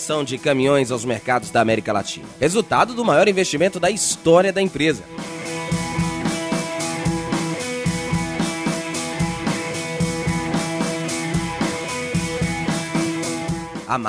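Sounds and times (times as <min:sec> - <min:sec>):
steady drum beat: 0:00.1 - 0:14.0.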